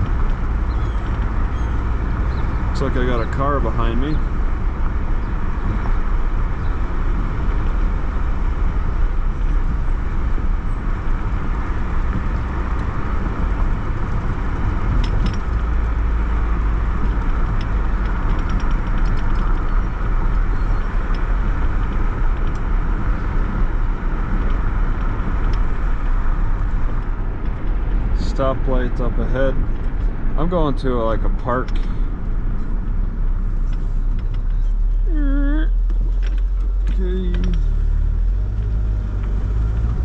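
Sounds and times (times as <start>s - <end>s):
car engine rumble: 0.0s - 40.0s
tyre road noise: 0.0s - 40.0s.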